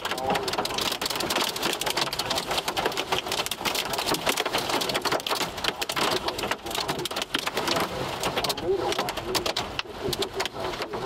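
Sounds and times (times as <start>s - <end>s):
hail clattering on car roof: 0.0s - 11.0s.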